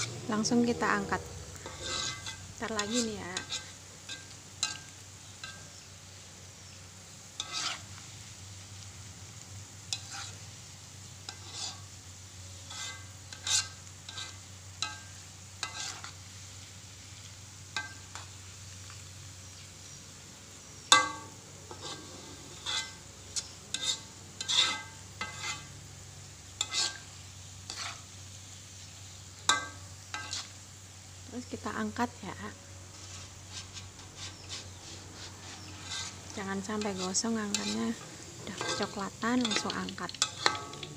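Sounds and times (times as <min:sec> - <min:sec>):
metal spatula scraping a wok: 0:00.0 - 0:06.2, 0:07.3 - 0:08.8, 0:09.8 - 0:12.0, 0:12.6 - 0:19.9, 0:20.7 - 0:30.7, 0:32.9 - 0:40.9
shallots sizzling in oil: 0:00.0 - 0:40.9.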